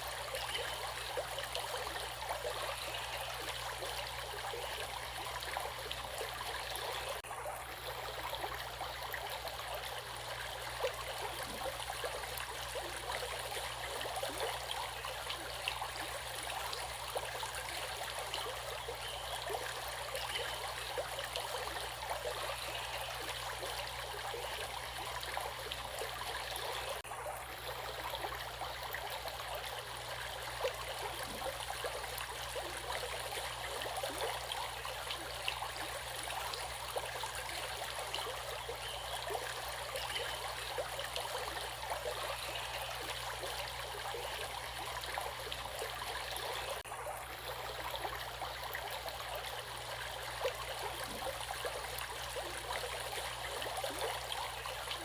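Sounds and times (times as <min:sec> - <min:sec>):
stream water flowing and gurgling: 0:00.0 - 0:55.0.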